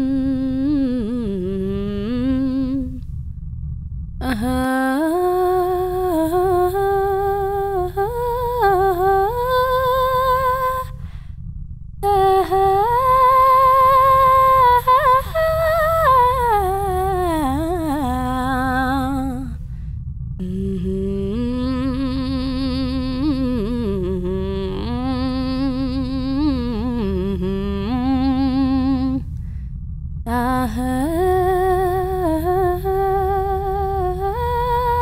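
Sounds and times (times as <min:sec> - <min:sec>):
person humming a slow melody: 0:00.0 - 0:03.1, 0:04.2 - 0:11.1, 0:12.0 - 0:19.6, 0:20.4 - 0:29.4, 0:30.3 - 0:35.0
low background hum: 0:00.0 - 0:35.0.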